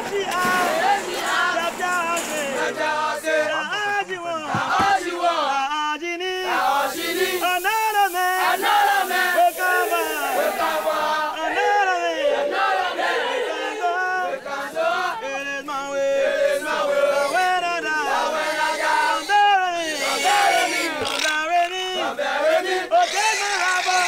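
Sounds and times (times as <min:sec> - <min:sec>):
group of voices chanting: 0:00.0 - 0:05.7, 0:06.4 - 0:24.0.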